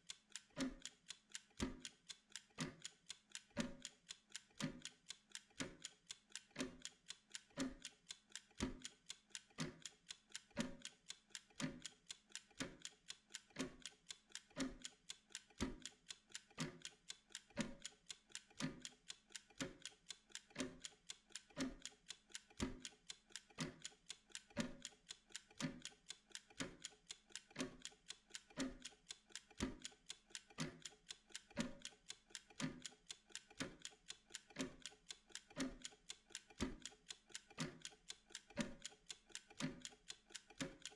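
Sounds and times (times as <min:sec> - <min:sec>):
kitchen timer ticking: 0:00.0 - 0:40.9.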